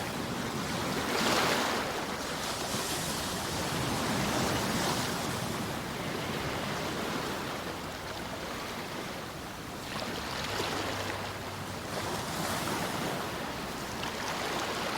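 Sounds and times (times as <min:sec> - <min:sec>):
ocean waves on shore: 0:00.0 - 0:14.9.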